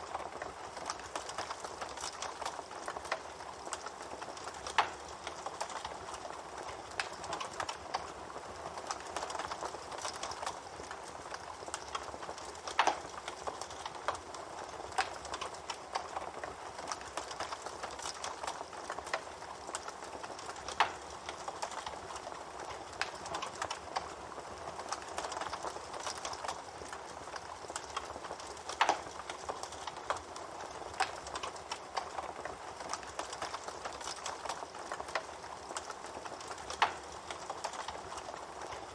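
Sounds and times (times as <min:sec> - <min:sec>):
campfire crackling and hissing: 0:00.0 - 0:38.9.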